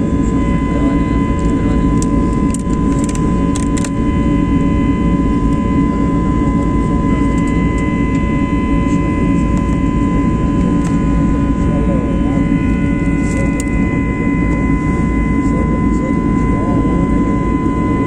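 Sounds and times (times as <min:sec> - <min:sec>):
jet engines rumbling and whining: 0:00.0 - 0:18.0.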